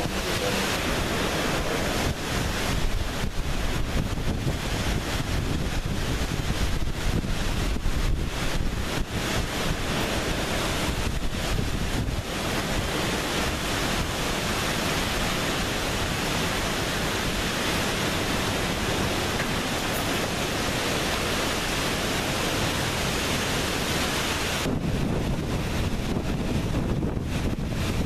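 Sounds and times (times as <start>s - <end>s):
driving rain: 0.0s - 28.0s
hurricane wind: 0.0s - 28.0s.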